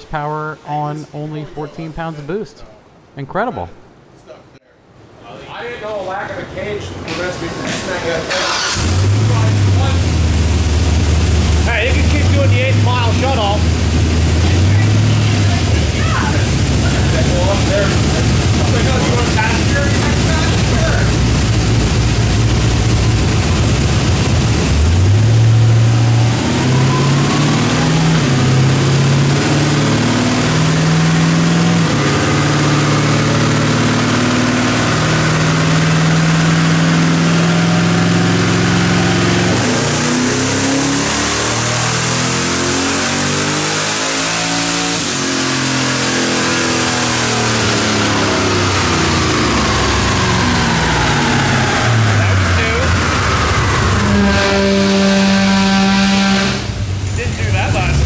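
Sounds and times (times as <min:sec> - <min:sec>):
car engine revving on a dyno: 0:07.1 - 0:58.0.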